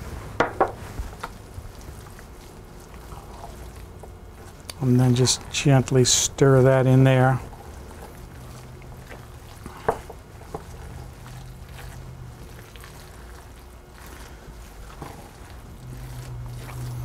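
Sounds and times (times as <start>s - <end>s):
low steady hum: 0.0s - 17.0s
wooden spoon stirring risotto: 0.0s - 17.0s.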